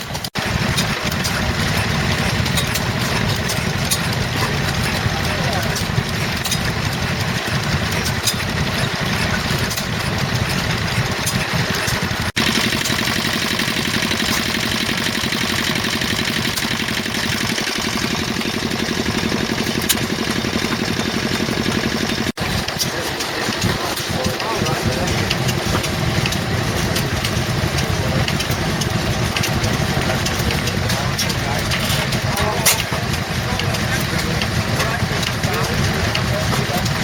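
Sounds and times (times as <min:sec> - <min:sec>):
stationary engines running: 0:00.0 - 0:37.0.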